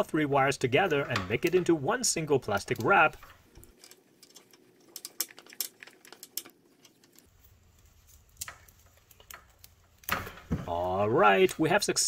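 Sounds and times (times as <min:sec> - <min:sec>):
electrical tape crackling: 0:00.0 - 0:12.0.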